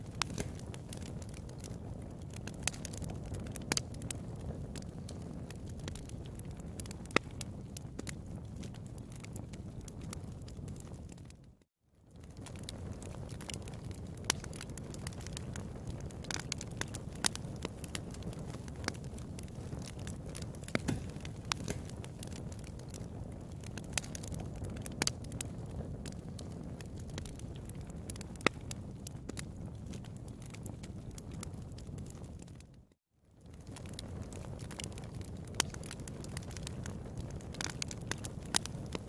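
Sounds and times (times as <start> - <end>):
fire popping: 0.0 - 39.0
wood fire crackling: 0.0 - 39.0.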